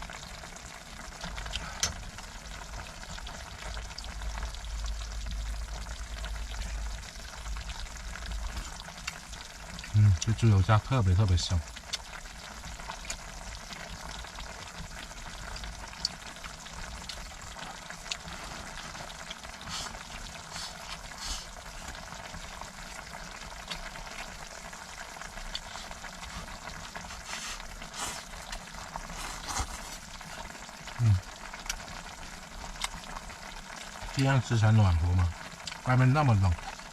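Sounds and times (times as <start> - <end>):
stew bubbling in a pot: 0.0 - 36.9.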